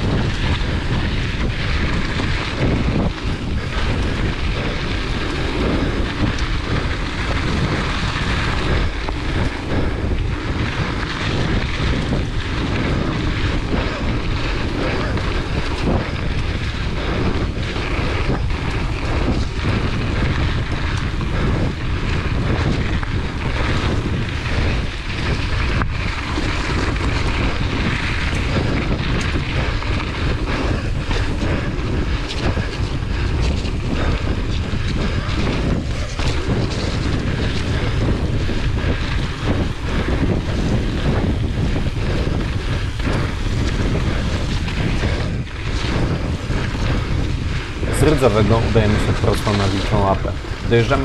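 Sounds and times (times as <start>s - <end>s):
bike clicks and rattles: 0.0s - 51.0s
bike tyres rolling on dirt: 0.0s - 51.0s
wind rushing over microphone: 0.0s - 51.0s.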